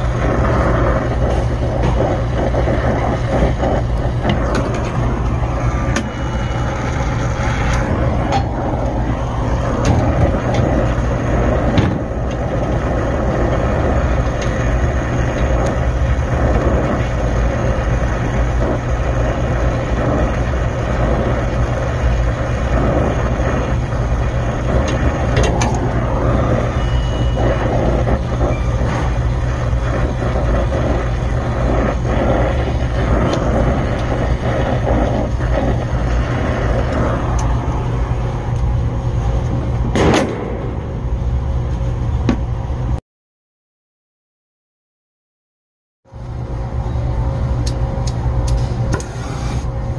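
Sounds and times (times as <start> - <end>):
torch flame hissing: 0.0 - 42.2, 47.6 - 49.9
low steady hum: 0.0 - 43.0, 46.1 - 49.9.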